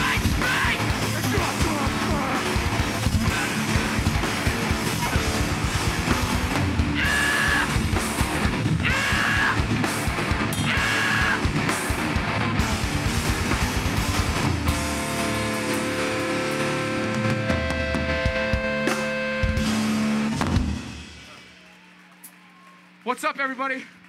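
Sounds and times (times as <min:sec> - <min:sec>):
bass guitar: 0:00.0 - 0:21.4
distorted electric guitars: 0:00.0 - 0:21.4
fast drumming: 0:00.0 - 0:21.6.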